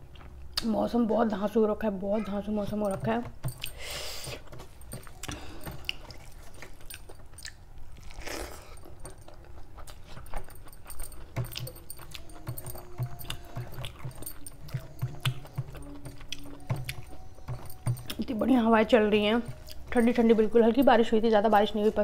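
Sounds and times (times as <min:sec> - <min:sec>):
chewing and wet mouth sounds: 0:00.0 - 0:00.7, 0:02.8 - 0:22.0.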